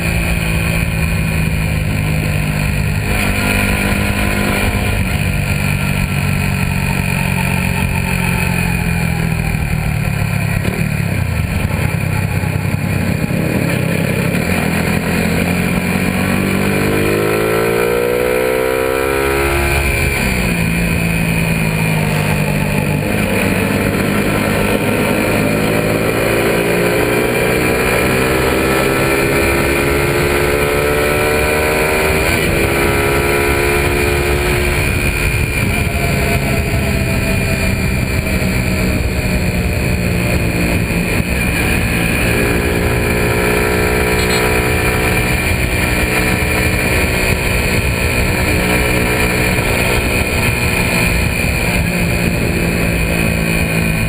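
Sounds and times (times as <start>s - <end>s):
motorcycle engine revving: 0.0s - 54.0s
wind rush on microphone: 0.0s - 54.0s.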